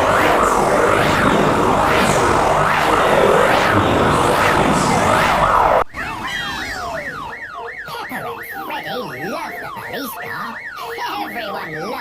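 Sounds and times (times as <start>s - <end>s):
cartoon police sirens stacked: 0.0s - 12.0s
fast siren wail: 0.0s - 12.0s.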